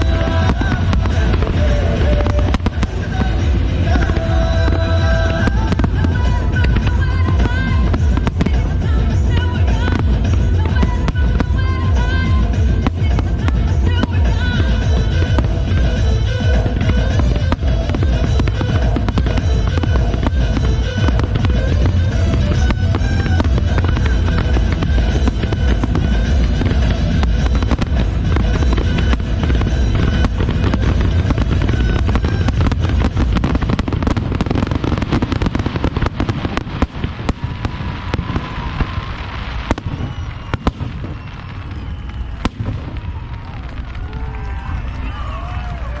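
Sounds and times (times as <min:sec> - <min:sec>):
fireworks bursting and crackling: 0:00.0 - 0:46.0
heavy low rumble: 0:00.0 - 0:46.0
music: 0:00.0 - 0:46.0.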